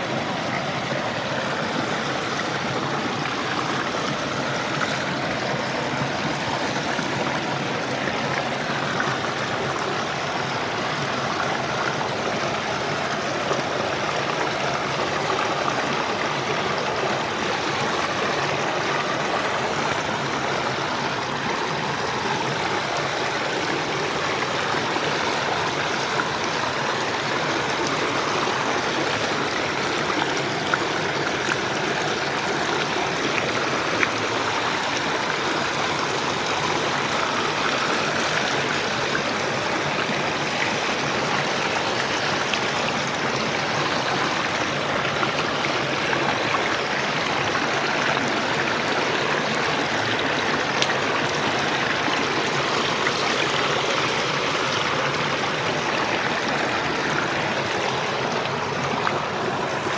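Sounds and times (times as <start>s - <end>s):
stream running over rock: 0.0s - 59.9s.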